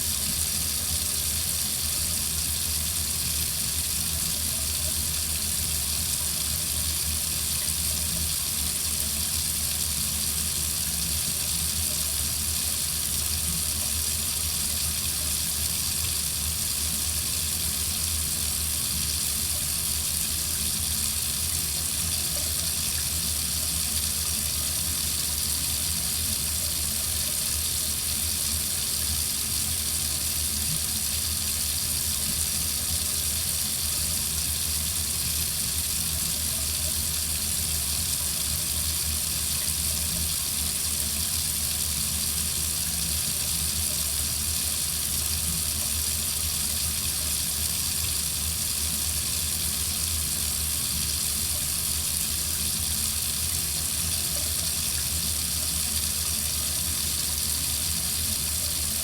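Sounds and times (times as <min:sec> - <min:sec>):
water running from a faucet: 0:00.0 - 0:59.0.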